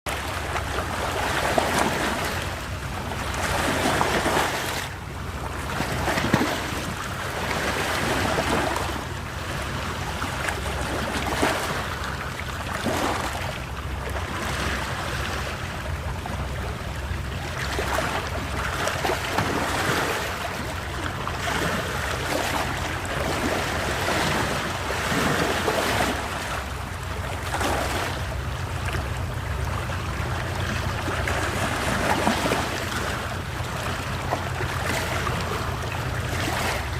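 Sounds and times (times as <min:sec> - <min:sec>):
sea waves breaking: 0:00.1 - 0:36.9
steady low rumble: 0:00.1 - 0:36.9.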